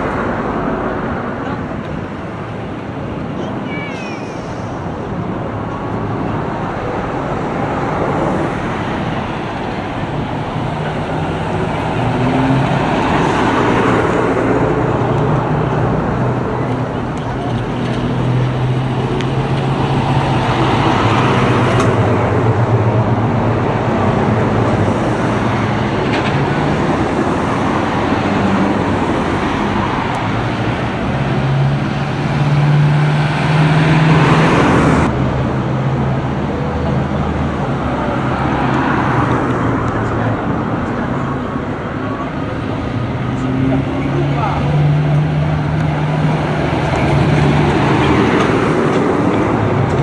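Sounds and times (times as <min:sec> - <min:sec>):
road noise: 0:00.0 - 0:50.0
truck diesel engines humming: 0:00.0 - 0:50.0.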